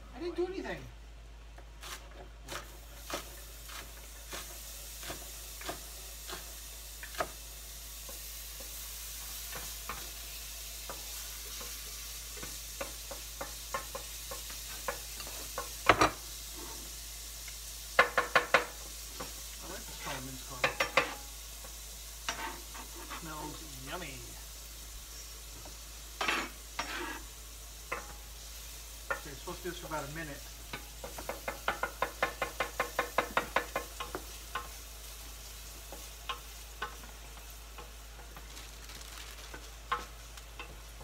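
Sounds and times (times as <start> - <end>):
garlic sizzling in a pan: 0.0 - 41.0.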